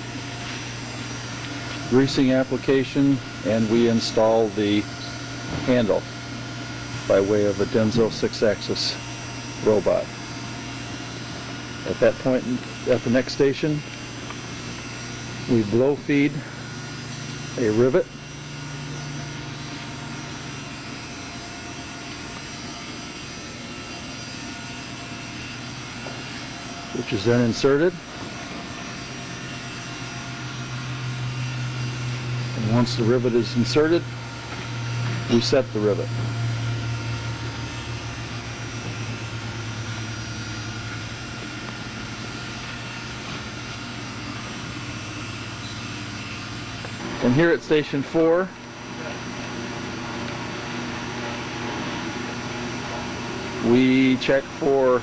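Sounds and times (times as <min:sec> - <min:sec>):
low hum: 0:00.0 - 0:47.8.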